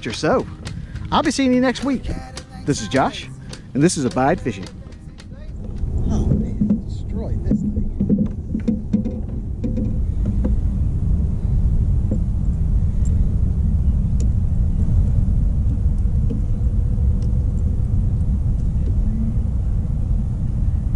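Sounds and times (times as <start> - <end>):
steady low outdoor noise: 0.0 - 20.9.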